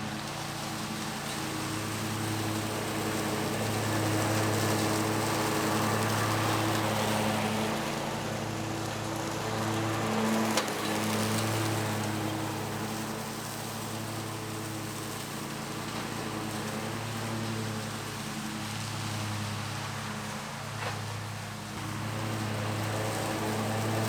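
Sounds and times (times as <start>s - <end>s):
mower engine droning: 0.0s - 24.0s.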